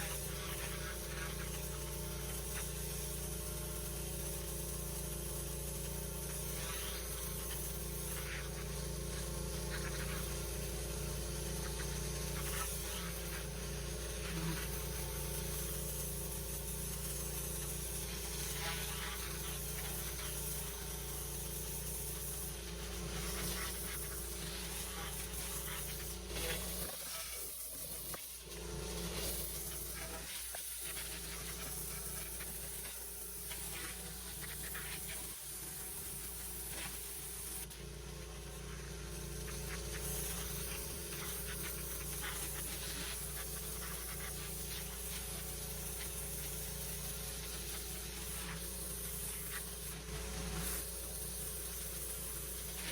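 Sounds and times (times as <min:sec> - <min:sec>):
pressure washer engine humming: 0:00.0 - 0:50.0
high-pressure water spray hiss: 0:00.0 - 0:52.9.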